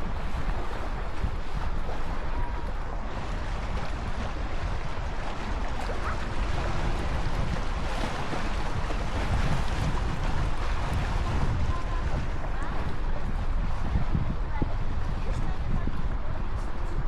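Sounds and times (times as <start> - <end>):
lake water splashing: 0.0 - 17.0
wind buffeting microphone: 0.0 - 17.0.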